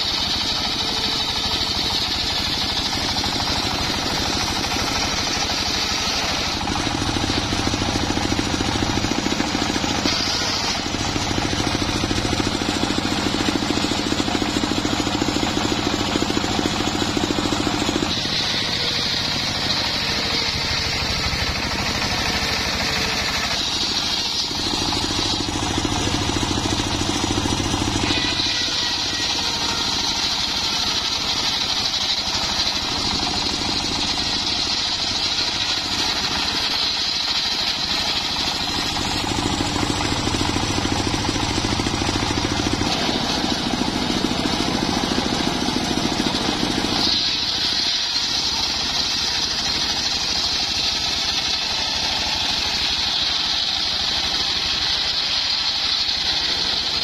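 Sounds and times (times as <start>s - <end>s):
circular saw cutting wood: 0.0s - 57.0s.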